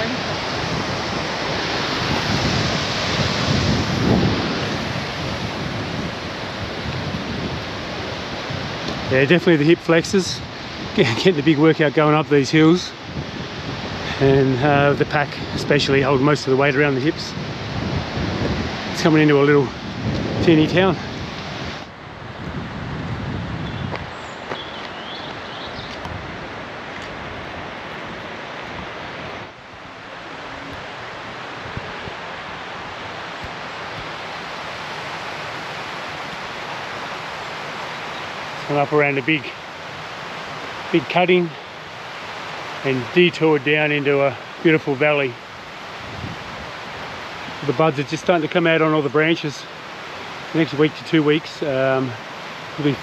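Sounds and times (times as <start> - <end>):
wind buffeting microphone: 0.0 - 49.4.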